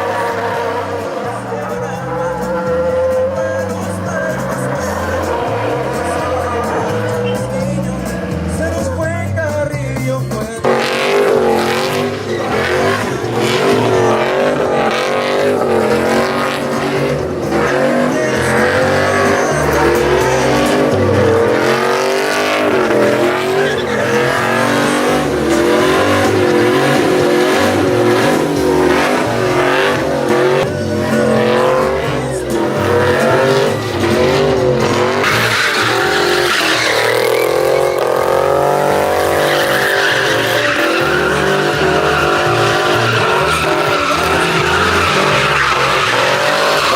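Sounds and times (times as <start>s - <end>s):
truck engine revving: 0.0s - 46.9s
tyres squealing on pavement: 0.0s - 46.9s.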